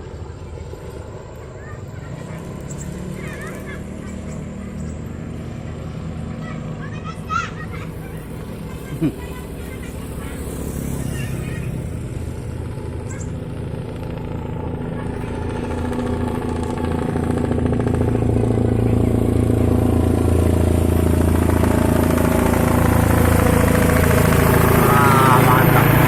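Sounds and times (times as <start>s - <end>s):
helicopter rotor drone: 0.0s - 26.0s.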